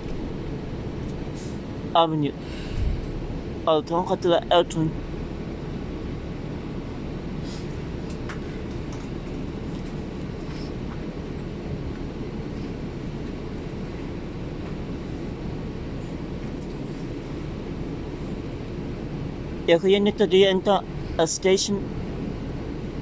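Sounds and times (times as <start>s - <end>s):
bus cabin rumble: 0.0s - 23.0s.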